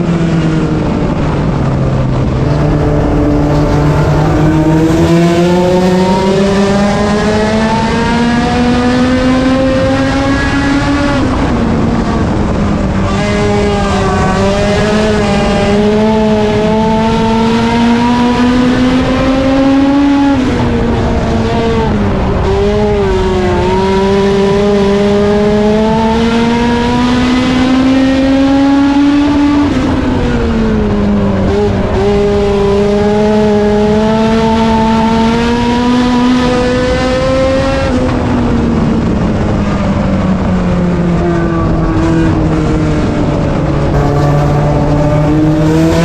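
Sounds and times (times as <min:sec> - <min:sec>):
race car engine at full throttle: 0:00.0 - 0:46.0.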